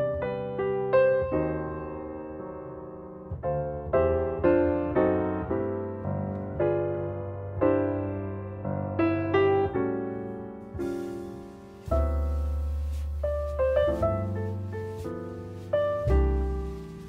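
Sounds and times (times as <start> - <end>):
slow soft solo piano: 0.0 - 17.0.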